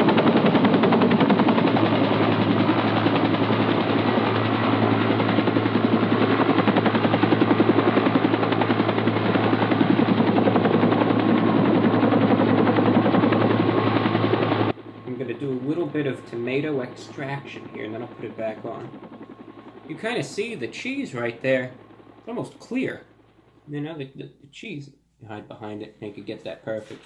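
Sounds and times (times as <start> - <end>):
rapid mechanical pulsing: 0.0 - 22.4
steady low hum: 0.0 - 27.0.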